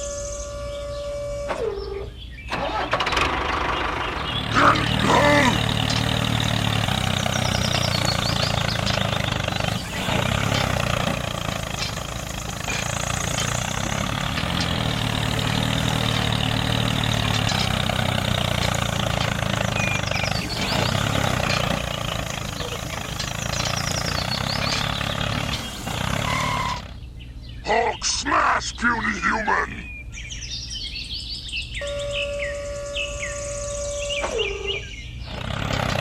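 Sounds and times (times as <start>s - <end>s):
engine idling: 0.6s - 27.3s, 31.8s - 36.0s.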